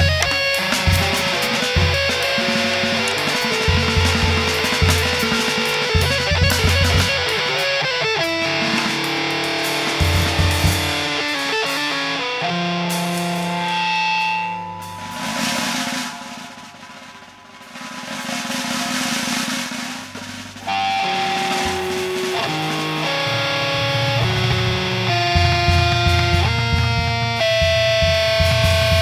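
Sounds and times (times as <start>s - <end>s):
electric guitar notes: 0.0s - 18.6s, 20.1s - 29.0s
drums and cymbals: 0.0s - 29.0s.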